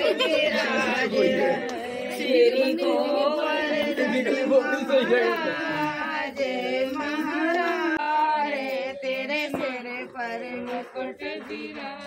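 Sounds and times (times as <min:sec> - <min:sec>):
voices singing a chant: 0:00.0 - 0:12.0.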